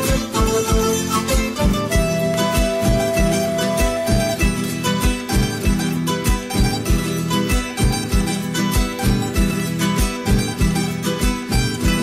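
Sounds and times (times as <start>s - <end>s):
bass drum beat: 0.0s - 12.0s
folk music with strings: 0.0s - 12.0s.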